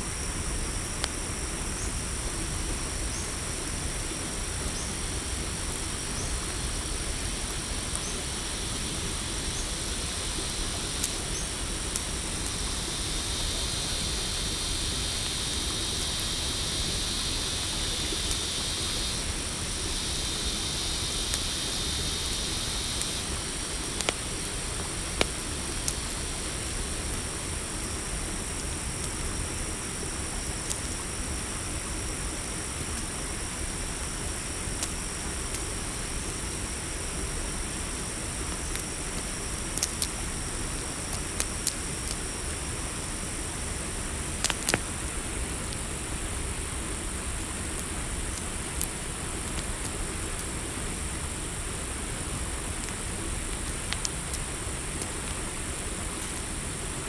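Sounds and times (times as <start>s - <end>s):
crickets and night insects: 0.0s - 57.0s
high insect trill: 0.0s - 57.0s
campfire crackling and popping: 0.1s - 57.0s.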